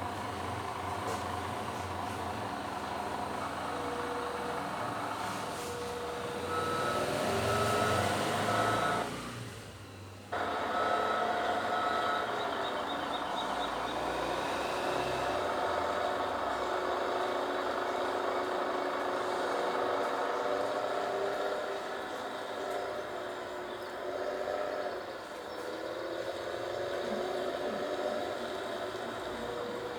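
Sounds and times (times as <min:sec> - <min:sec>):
heavy vehicle engine running: 0:00.0 - 0:29.9.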